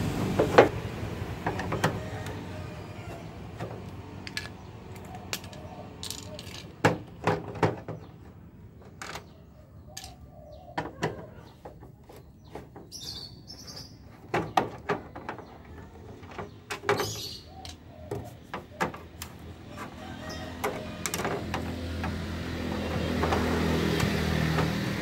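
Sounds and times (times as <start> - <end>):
birds chirping: 1.7 - 25.0.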